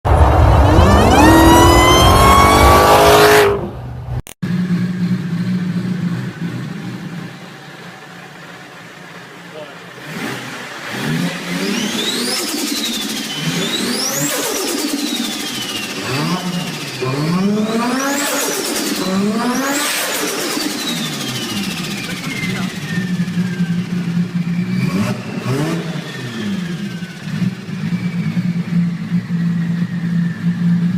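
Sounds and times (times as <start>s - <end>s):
car engine revving with whine: 0.1s - 30.9s
engine idling: 4.4s - 30.9s.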